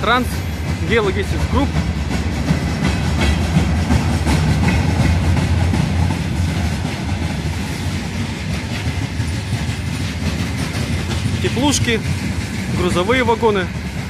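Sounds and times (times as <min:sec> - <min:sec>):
steel wheels rumbling on rails: 0:00.0 - 0:14.0
wheels clicking over rail joints: 0:00.0 - 0:14.0.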